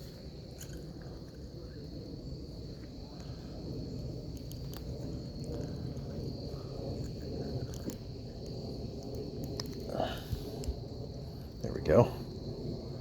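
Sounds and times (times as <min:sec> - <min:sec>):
insects trilling: 0:00.0 - 0:13.0
low rumbling noise: 0:00.0 - 0:13.0.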